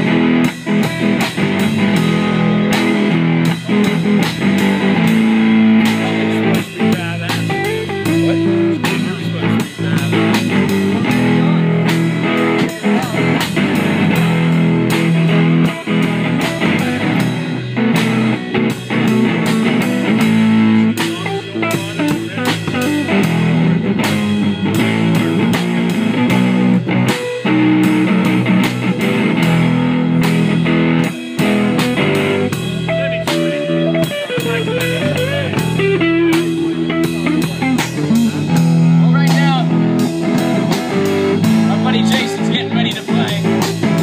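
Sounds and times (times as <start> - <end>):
drum kit: 0.0 - 44.0
electric guitar: 0.0 - 44.0.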